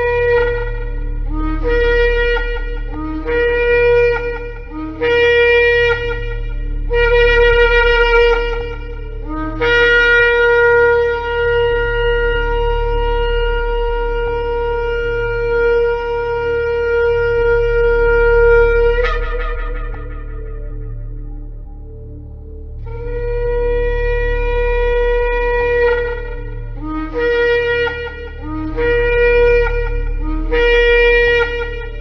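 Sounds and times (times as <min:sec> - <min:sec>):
shofar blasts: 0:00.0 - 0:22.2, 0:22.8 - 0:32.0.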